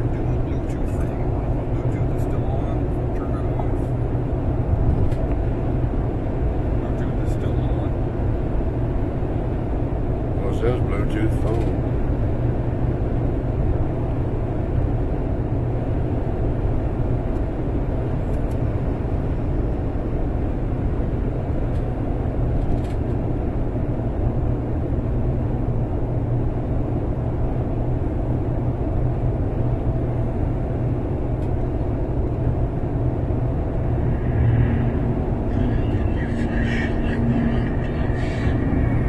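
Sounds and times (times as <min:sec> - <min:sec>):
car cabin drone: 0:00.0 - 0:39.0.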